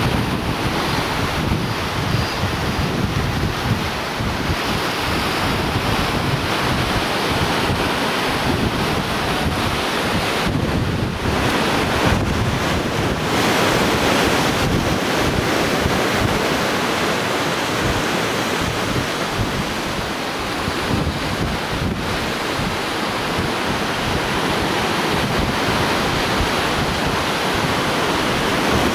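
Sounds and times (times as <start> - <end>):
surf breaking on rocks: 0.0 - 28.9
wind buffeting microphone: 0.0 - 28.9.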